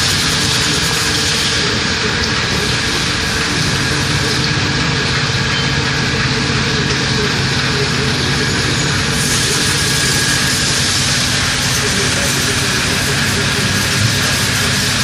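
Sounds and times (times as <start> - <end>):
gear shaping machine running: 0.0 - 15.0.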